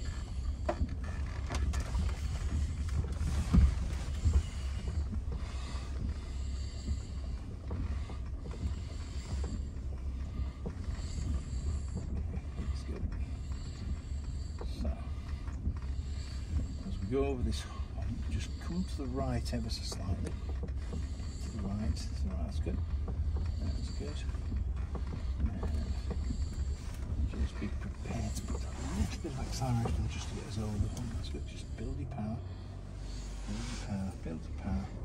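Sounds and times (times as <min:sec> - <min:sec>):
car cabin rumble: 0:00.0 - 0:35.0.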